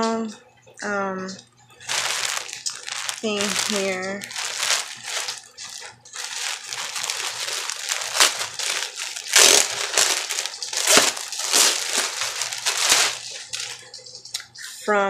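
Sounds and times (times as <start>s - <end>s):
plastic bag crinkling: 1.8s - 14.3s.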